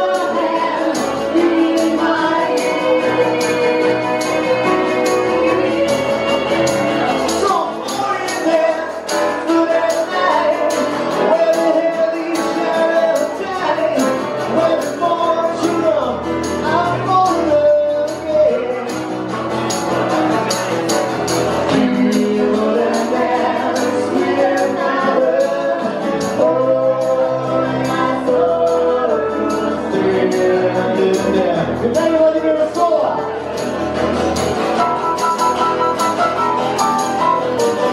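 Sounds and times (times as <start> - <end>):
jingling percussion beat: 0.0 - 32.3, 33.4 - 37.9.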